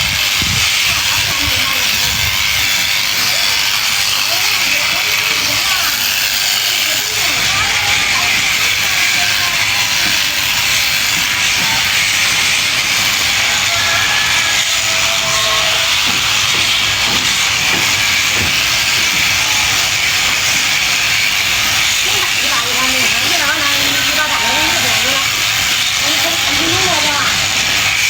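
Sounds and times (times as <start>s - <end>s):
shearing clippers hissing: 0.0s - 28.0s.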